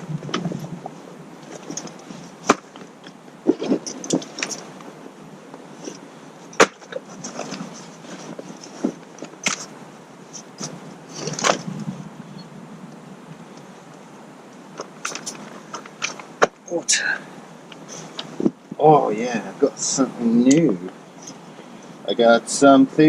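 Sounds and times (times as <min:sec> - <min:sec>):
camping kit rustling: 0:00.0 - 0:12.5, 0:13.2 - 0:22.6.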